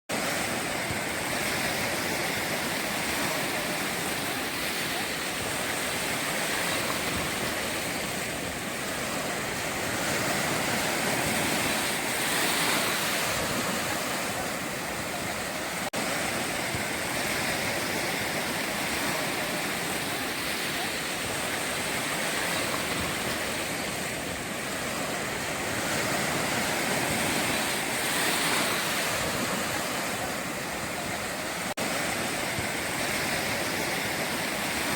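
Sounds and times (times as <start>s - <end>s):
sea waves breaking on shore: 0.1s - 34.9s.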